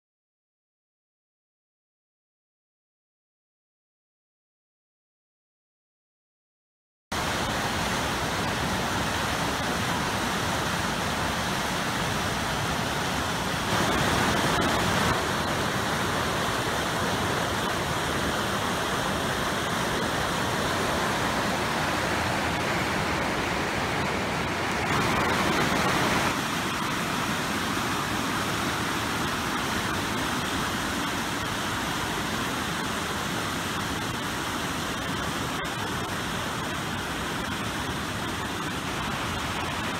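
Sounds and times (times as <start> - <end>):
creek water rushing: 7.2 - 39.9.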